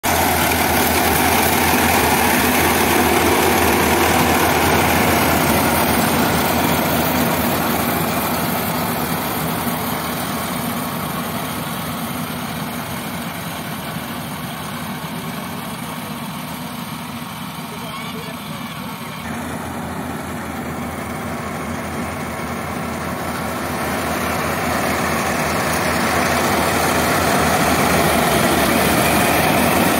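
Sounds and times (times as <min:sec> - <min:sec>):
combine harvester droning: 0:00.0 - 0:29.9.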